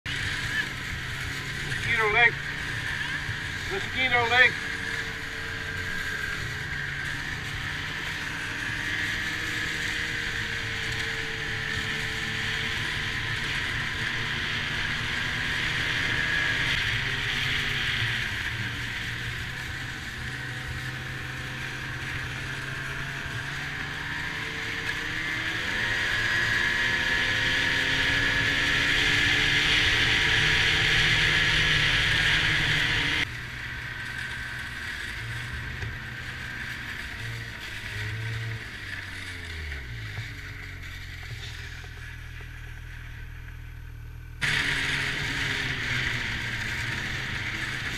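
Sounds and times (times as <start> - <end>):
snowmobile engine running: 0.1 - 47.9.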